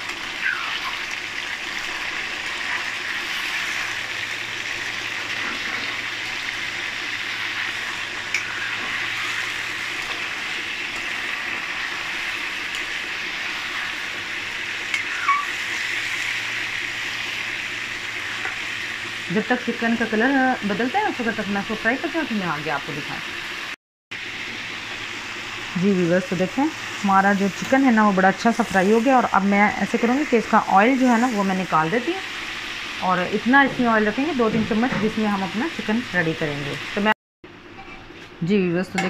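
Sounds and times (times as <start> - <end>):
chicken sizzling in hot oil: 0.0 - 37.2.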